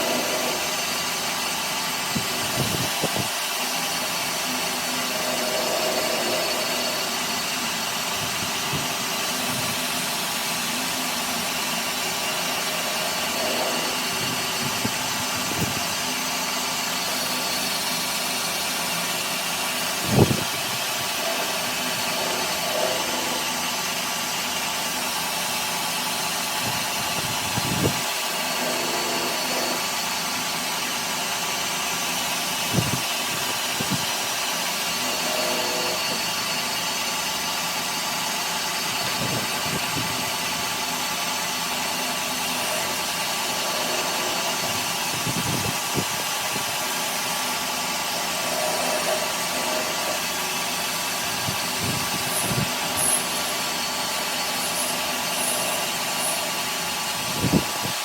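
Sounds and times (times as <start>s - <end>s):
workshop machine running: 0.0s - 58.0s.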